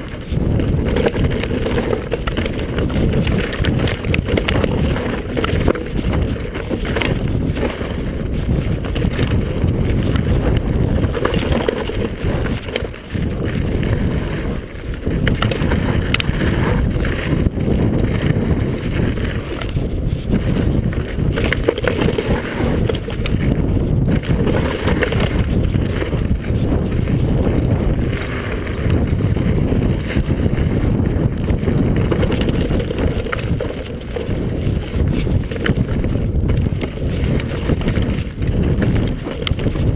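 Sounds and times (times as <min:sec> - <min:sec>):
bike knocking and rattling: 0:00.0 - 0:39.9
tyres rumbling on dirt: 0:00.0 - 0:39.9
wind buffeting microphone: 0:00.0 - 0:39.9.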